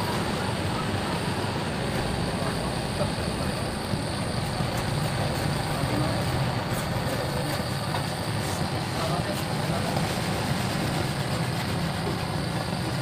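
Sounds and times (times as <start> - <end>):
gas torch burning: 0.0 - 13.0.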